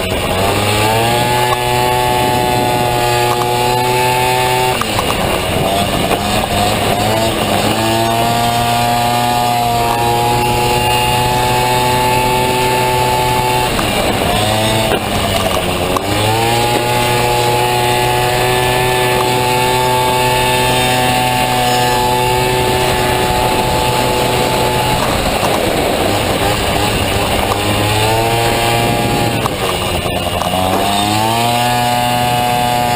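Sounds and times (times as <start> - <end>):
scooter engine at high revs: 0.0 - 32.9.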